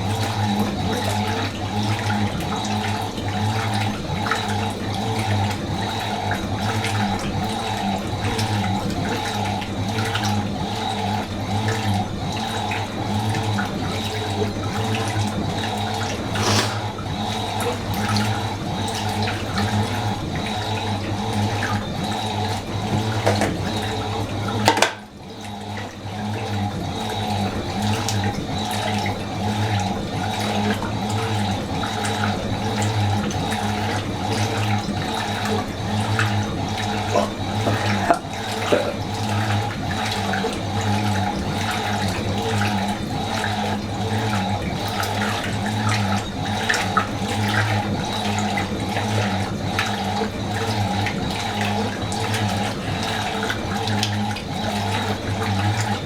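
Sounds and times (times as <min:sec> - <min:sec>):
pulsing water churn: 0:00.0 - 0:56.0
washing machine motor hum: 0:00.0 - 0:56.0.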